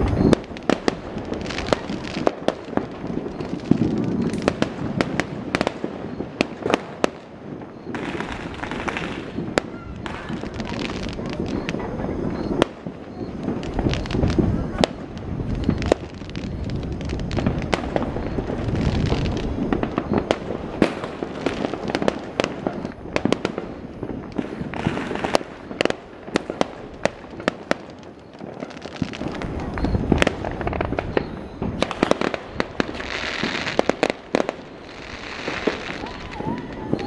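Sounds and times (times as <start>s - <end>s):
fireworks bangs and crackles: 0.0s - 37.0s
hissing crackle: 0.0s - 37.0s.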